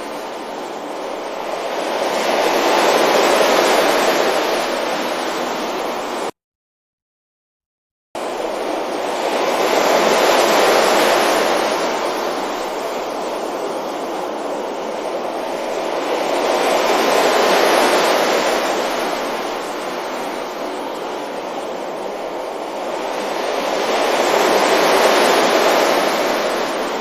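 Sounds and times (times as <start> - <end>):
sea waves breaking on beach: 0.0 - 6.3, 8.2 - 27.0.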